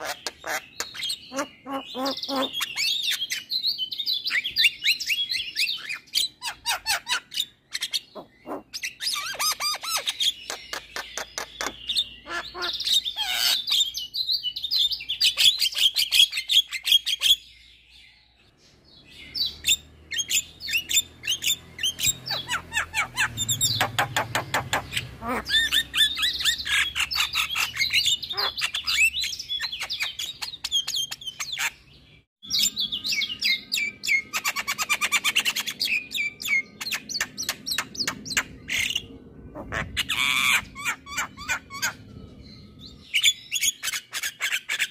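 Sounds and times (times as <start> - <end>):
bird chattering and singing: 0.0 - 17.9, 18.6 - 44.9.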